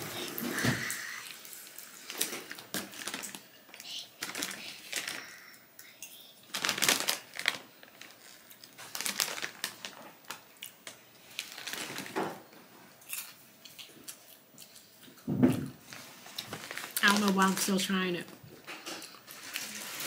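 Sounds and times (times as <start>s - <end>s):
plastic snack bag crinkling: 0.0s - 14.4s, 15.8s - 20.0s.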